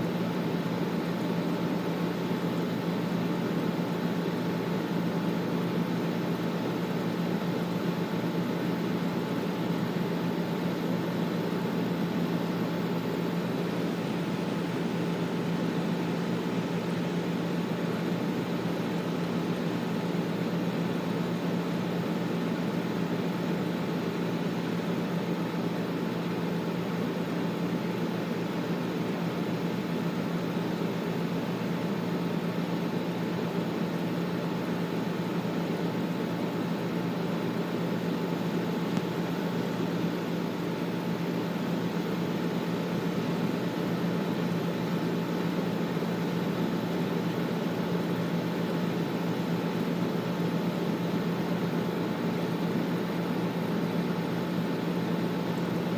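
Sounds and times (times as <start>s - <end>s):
air conditioner running: 0.0s - 55.9s.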